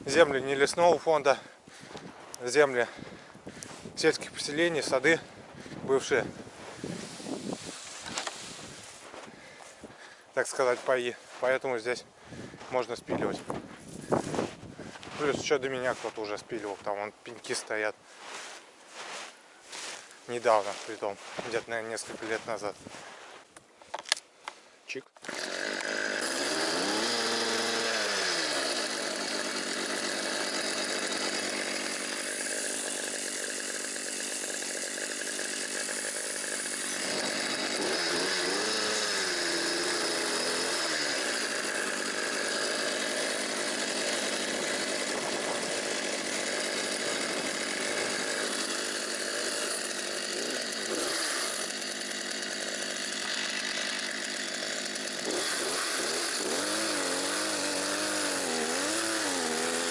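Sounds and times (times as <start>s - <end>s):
chainsaw sawing wood: 0.0s - 23.4s, 25.2s - 59.9s.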